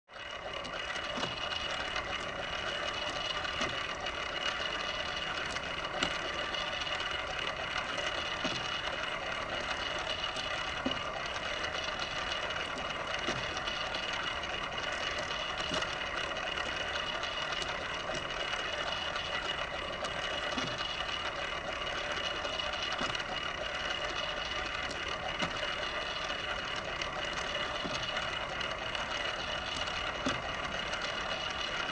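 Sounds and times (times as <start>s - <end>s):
turntable motor whirring: 0.1s - 31.9s
faint ticks: 0.2s - 31.9s.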